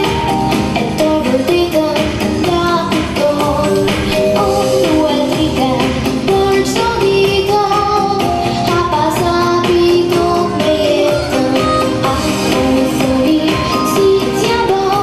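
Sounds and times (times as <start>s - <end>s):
girl singing into microphone: 0.0s - 15.0s.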